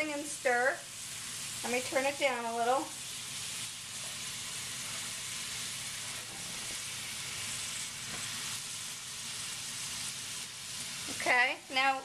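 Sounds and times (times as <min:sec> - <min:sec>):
vegetables sizzling in skillet: 0:00.0 - 0:12.0.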